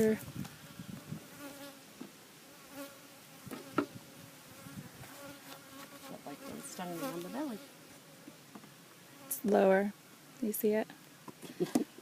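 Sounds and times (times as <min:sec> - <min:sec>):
honeybees buzzing: 0:00.0 - 0:10.4.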